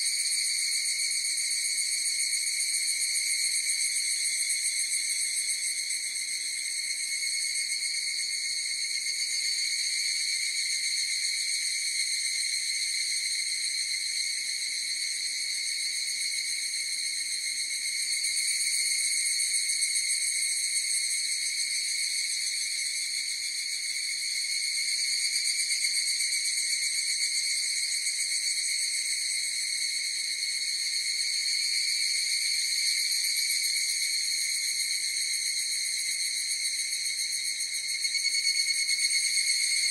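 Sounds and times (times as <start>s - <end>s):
cicadas ringing drone: 0.0s - 39.9s.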